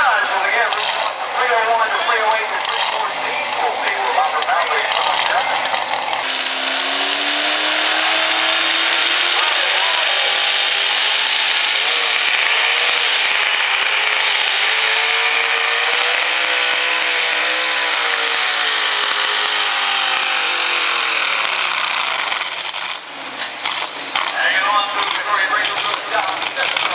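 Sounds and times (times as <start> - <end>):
truck engine revving hard: 0.0 - 26.9.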